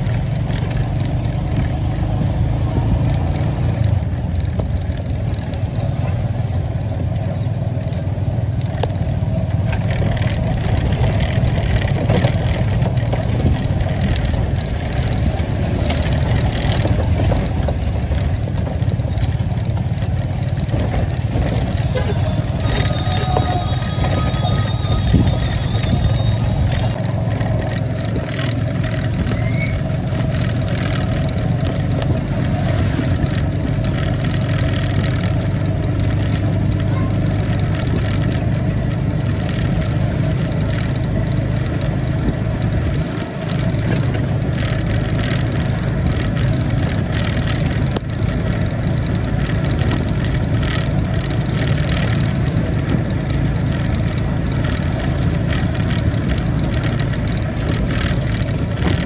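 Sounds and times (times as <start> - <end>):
engine running: 0.0 - 59.0
ticks and rattles: 0.0 - 59.0.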